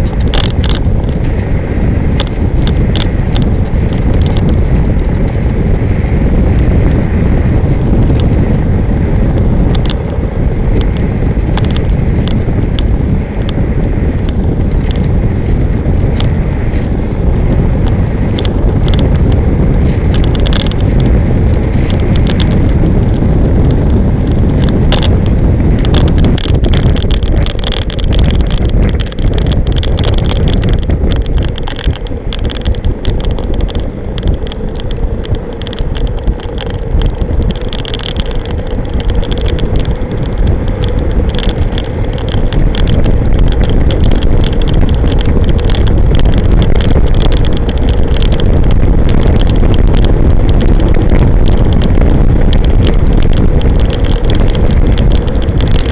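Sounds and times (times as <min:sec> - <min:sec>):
buggy frame rattling: 0:00.0 - 0:55.9
wind blasting microphone: 0:00.0 - 0:55.9.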